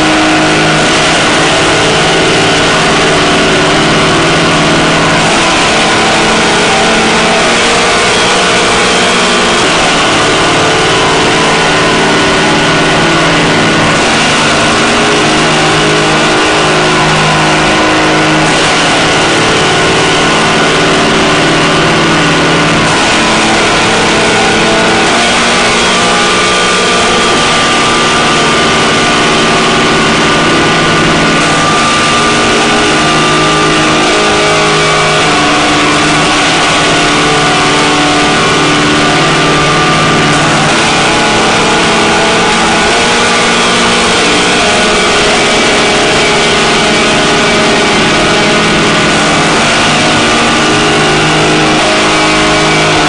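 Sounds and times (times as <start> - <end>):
harsh noise drone music: 0.0 - 53.0.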